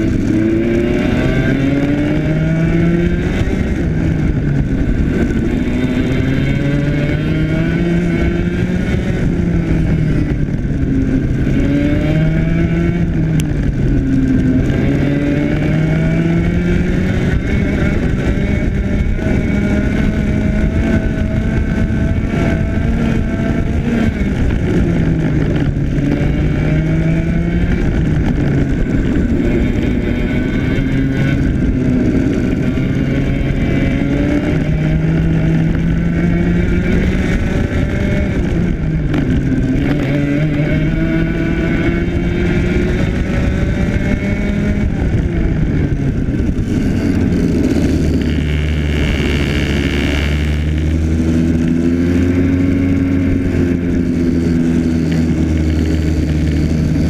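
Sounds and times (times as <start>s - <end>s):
kart engine revving: 0.0s - 57.0s
road rumble: 0.0s - 57.0s
wind noise: 0.0s - 57.0s.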